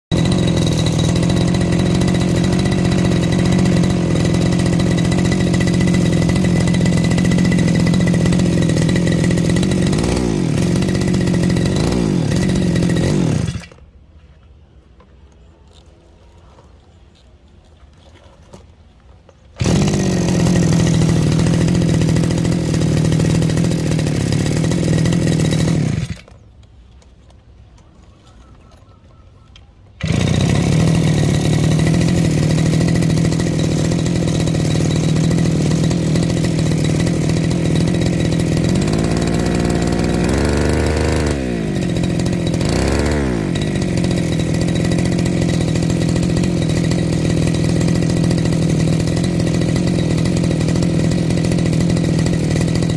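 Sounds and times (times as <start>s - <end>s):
brush cutter engine running: 0.1s - 13.9s, 19.4s - 26.7s, 29.9s - 52.9s.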